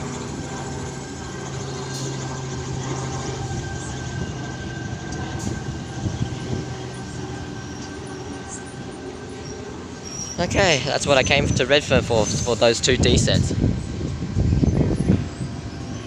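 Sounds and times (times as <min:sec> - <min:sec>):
electric train humming: 0:00.0 - 0:16.0
low rumbling: 0:00.0 - 0:16.0.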